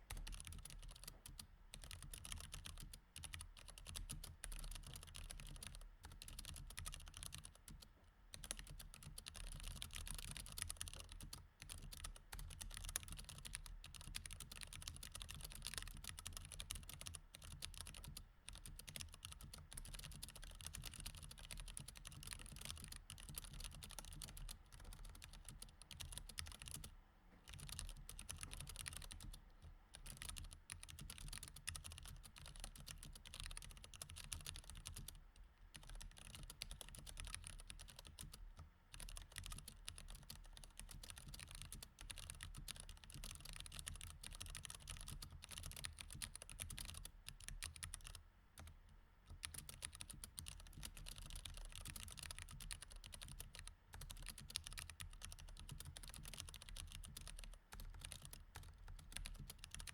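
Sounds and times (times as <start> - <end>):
mechanical keyboard typing: 0.1 - 26.9, 27.5 - 38.4, 39.0 - 48.7, 49.3 - 59.9.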